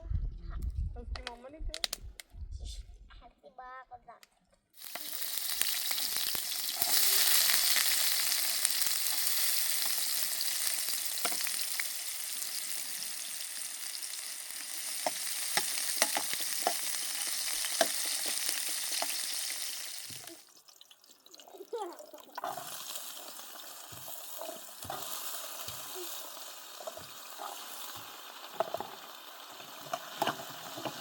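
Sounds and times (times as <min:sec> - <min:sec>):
sharp crackles and pops: 0:01.2 - 0:02.3, 0:04.2 - 0:31.0.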